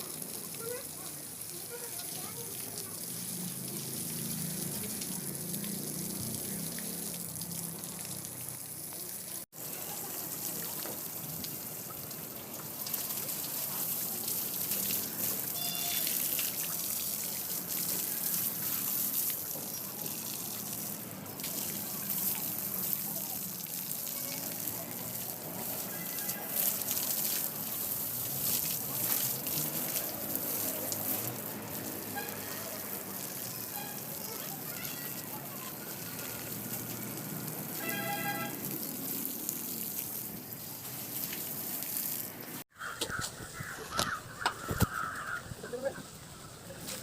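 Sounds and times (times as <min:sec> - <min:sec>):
spraying water hiss: 0:00.0 - 0:42.7.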